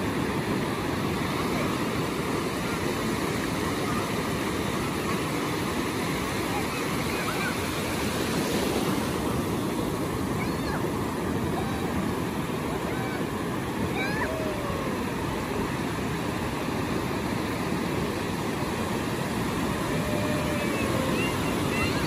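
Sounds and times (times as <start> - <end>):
waves breaking on sand: 0.0 - 22.0.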